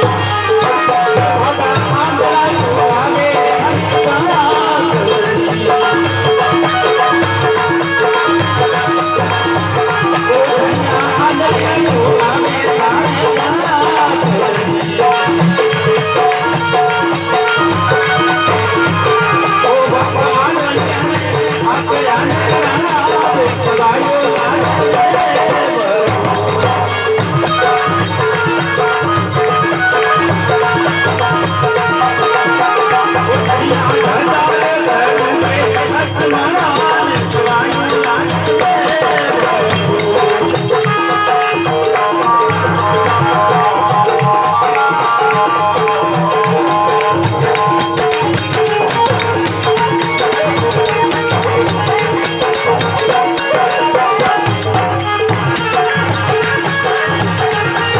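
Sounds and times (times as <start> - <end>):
percussion strikes: 0.0 - 57.9.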